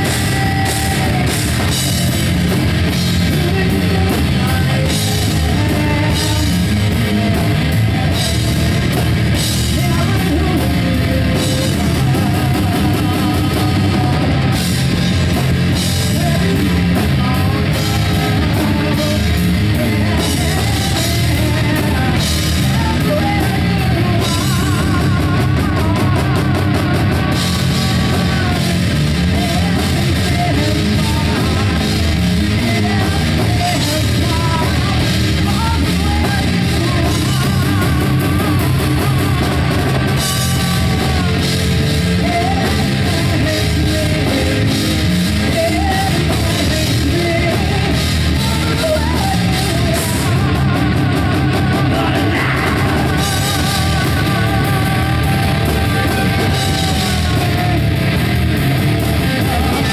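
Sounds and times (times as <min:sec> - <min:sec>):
distorted electric guitars: 0:00.0 - 0:59.9
drum kit: 0:00.0 - 0:59.9
woman singing: 0:00.0 - 0:59.9.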